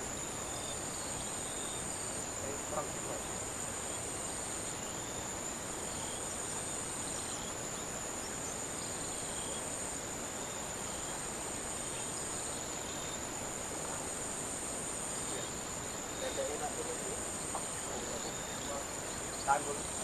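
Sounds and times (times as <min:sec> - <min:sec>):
background hiss: 0:00.0 - 0:20.0
insect chorus high drone: 0:00.0 - 0:20.0.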